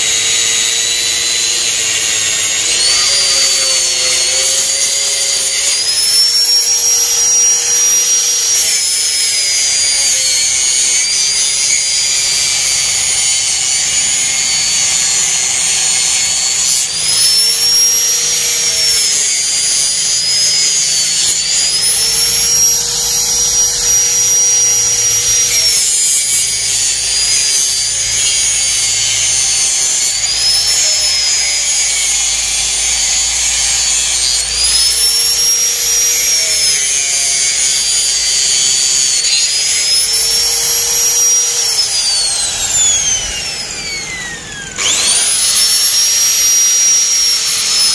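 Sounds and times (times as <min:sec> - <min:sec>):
angle grinder grinding: 0:00.0 - 0:47.9.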